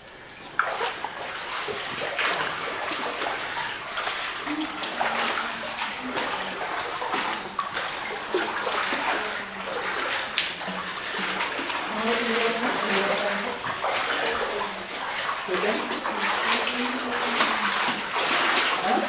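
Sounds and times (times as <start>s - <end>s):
footsteps splashing through water: 0.0s - 19.0s.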